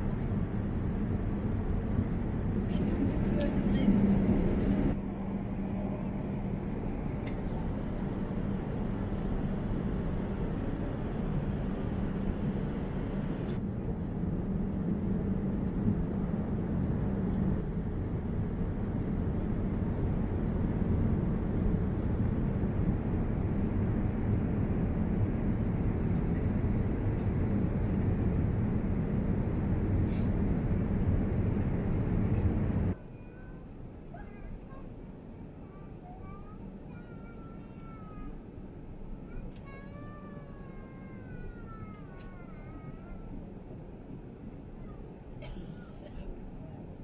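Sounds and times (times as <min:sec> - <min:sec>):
airliner cabin engine rush: 0:00.0 - 0:33.1, 0:33.8 - 0:47.0.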